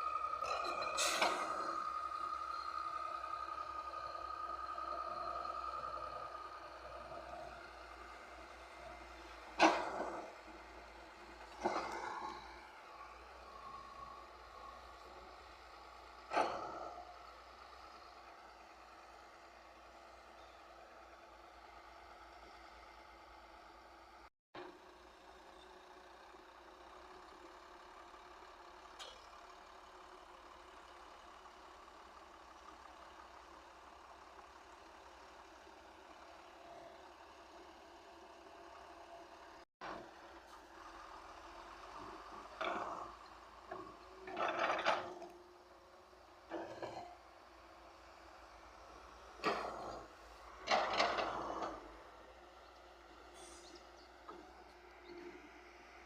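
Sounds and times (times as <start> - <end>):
faint diesel engine running: 0.0 - 56.0.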